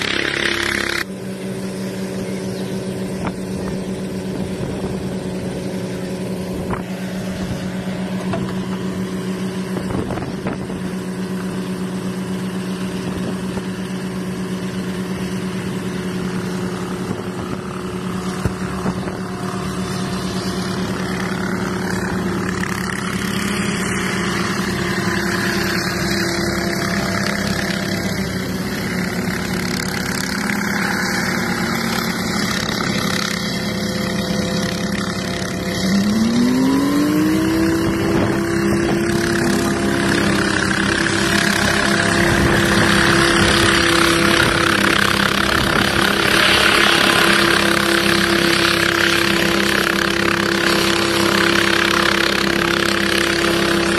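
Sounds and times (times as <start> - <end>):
helicopter engine and rotors humming: 0.0 - 53.9.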